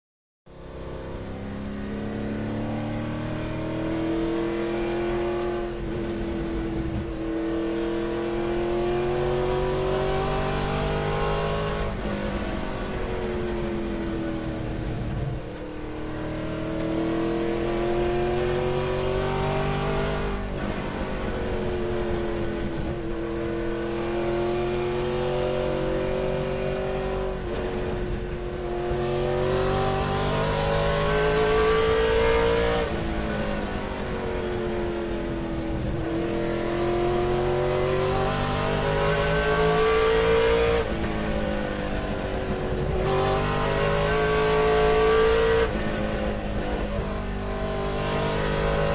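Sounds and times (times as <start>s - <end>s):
race car engine revving: 0.8s - 48.9s.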